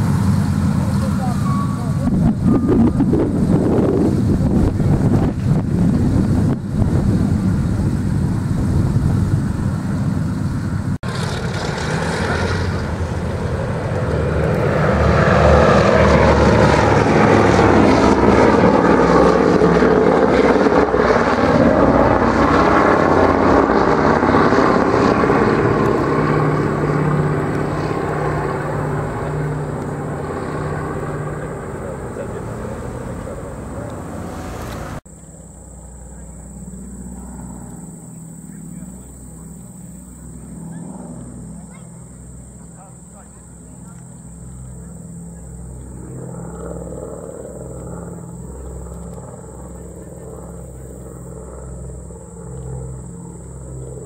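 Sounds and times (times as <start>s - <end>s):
propeller drone passing: 0.0s - 54.0s
radial aircraft engines taxiing: 0.0s - 54.0s.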